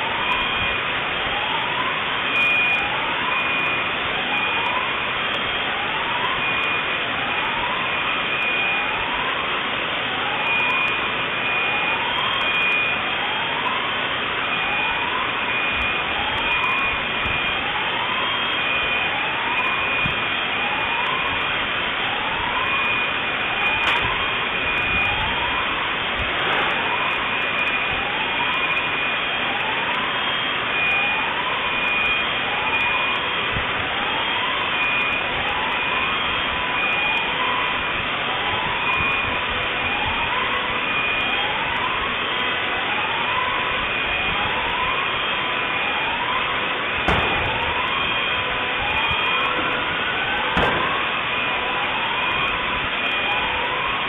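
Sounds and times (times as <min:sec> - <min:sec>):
rising whoop alarm: 0:00.0 - 0:54.0.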